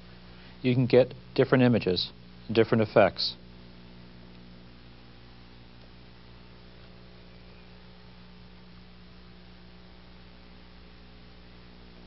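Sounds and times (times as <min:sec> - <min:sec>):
electrical mains hum: 0:00.0 - 0:12.0
low hiss: 0:00.0 - 0:12.0.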